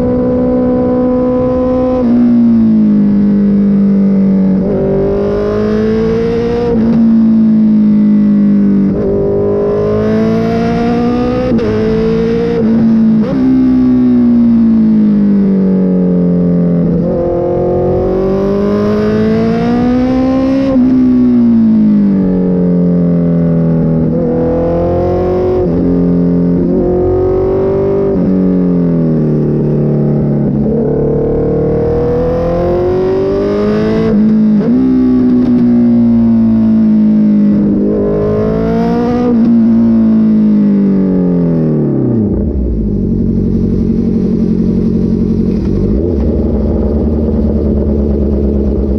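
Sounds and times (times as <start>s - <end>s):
motorcycle engine revving and idling: 0.0s - 48.9s.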